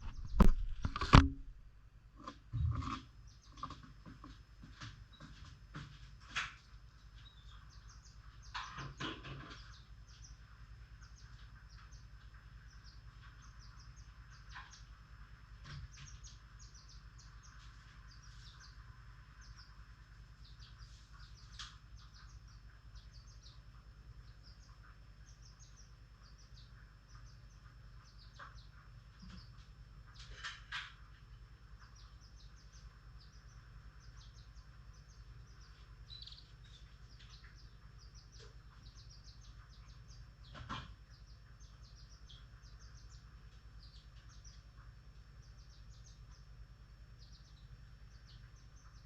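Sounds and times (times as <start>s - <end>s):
faint low hum: 0.0s - 49.0s
lovebirds chirping: 3.1s - 49.0s.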